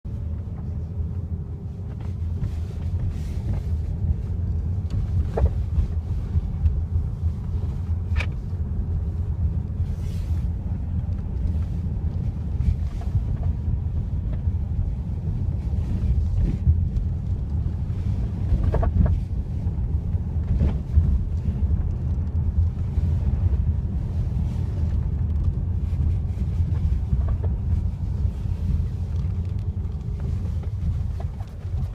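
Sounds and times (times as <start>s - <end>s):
low road rumble: 0.0s - 31.9s.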